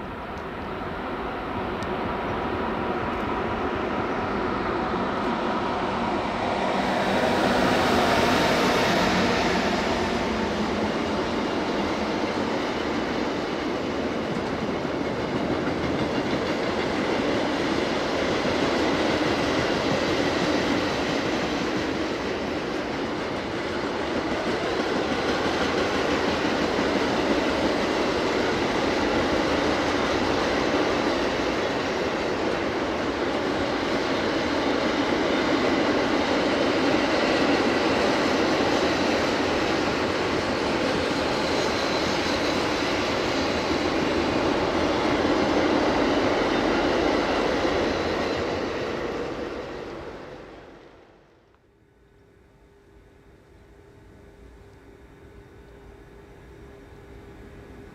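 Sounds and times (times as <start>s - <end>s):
train wheels on rail: 0.0s - 52.1s.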